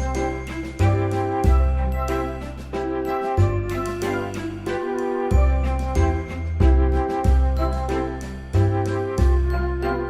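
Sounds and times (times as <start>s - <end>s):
background music with low bass: 0.0s - 10.0s.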